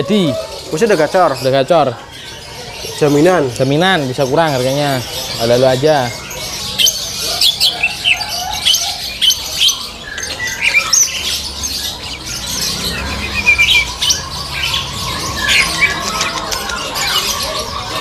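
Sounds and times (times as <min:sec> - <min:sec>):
bird trill: 0:00.0 - 0:18.0
songbirds chirping and whistling: 0:00.0 - 0:18.0.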